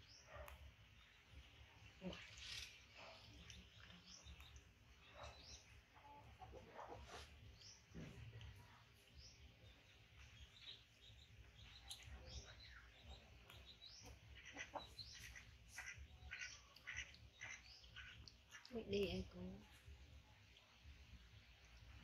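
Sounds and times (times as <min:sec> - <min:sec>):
small bird chirps: 0:00.0 - 0:22.0.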